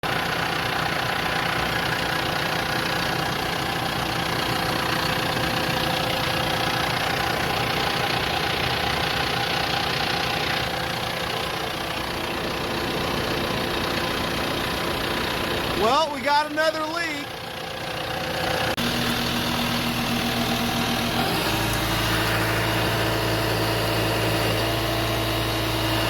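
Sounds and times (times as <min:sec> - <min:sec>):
excavator diesel engine idling: 0:00.0 - 0:26.0.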